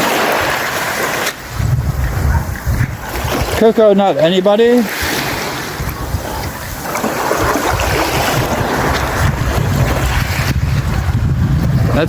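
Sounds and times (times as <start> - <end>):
waves washing on sandy beach: 0.0 - 12.0
wind buffeting microphone: 0.0 - 12.0.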